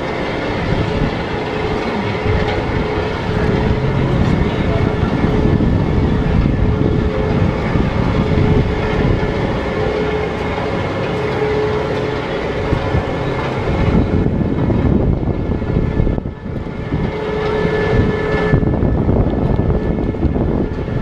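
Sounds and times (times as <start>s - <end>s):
roller coaster rattling on track: 0.0s - 21.0s.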